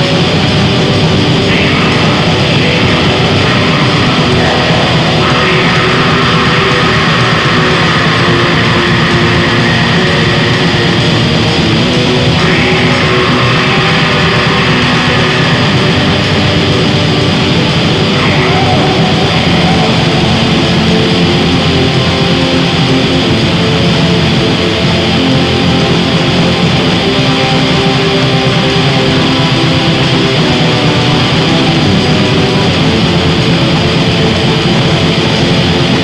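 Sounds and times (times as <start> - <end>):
distorted electric guitar: 0.0 - 36.0.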